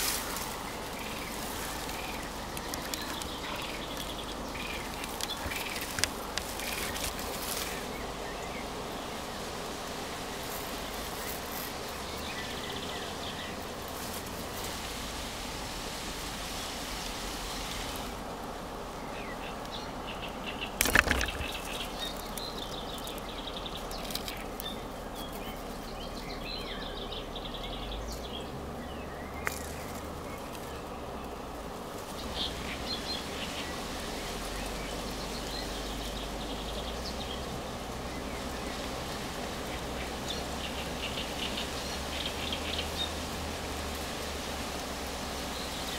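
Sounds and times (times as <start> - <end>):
birds chirping: 0.0 - 14.7, 16.2 - 45.9
outdoor background noise: 0.0 - 45.9.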